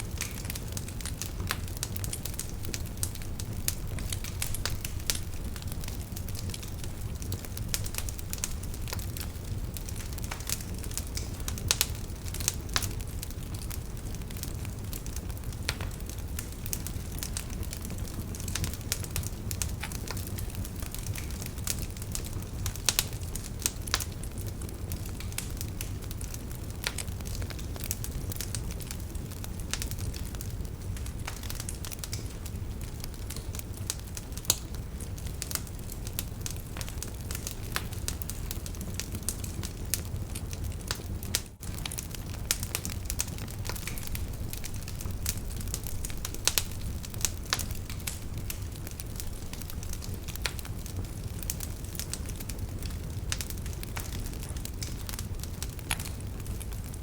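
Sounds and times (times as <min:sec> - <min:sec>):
fire crackling and popping: 0:00.0 - 0:57.0
flames rumbling: 0:00.0 - 0:57.0.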